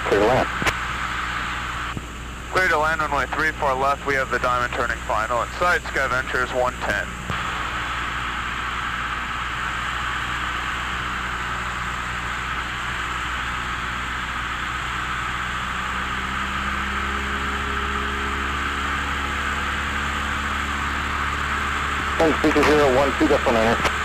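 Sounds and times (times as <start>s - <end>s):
airplane engine and propeller: 0.0s - 24.0s.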